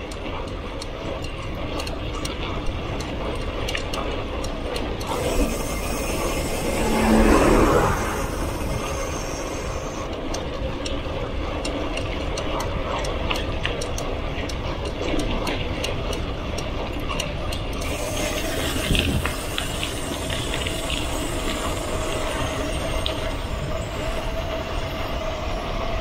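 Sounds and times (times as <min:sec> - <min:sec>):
bicycle freewheel ticking: 0:00.0 - 0:26.0
rushing noise with low hum: 0:00.0 - 0:26.0.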